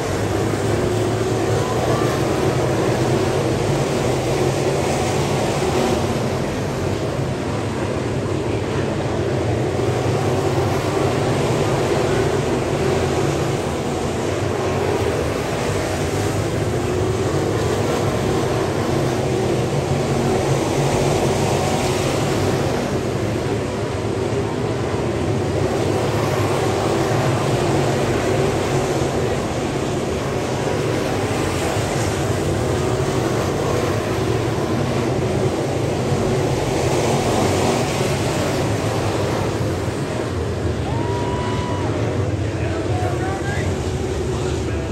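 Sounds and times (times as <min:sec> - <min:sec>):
race car engines droning: 0:00.0 - 0:44.9.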